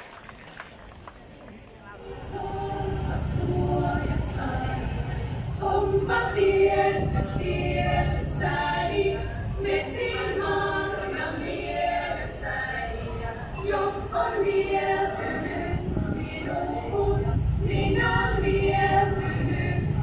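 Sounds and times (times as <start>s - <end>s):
women's choir singing: 2.0s - 20.0s.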